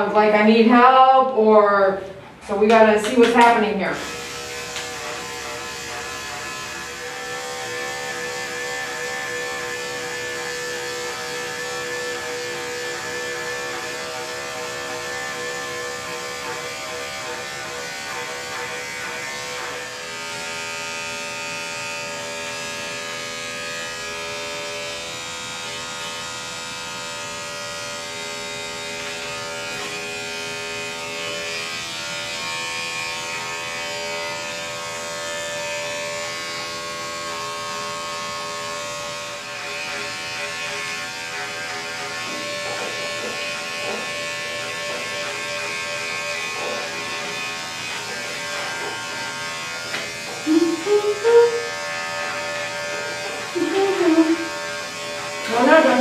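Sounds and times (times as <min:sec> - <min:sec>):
electric clippers humming: 0:00.0 - 0:56.0.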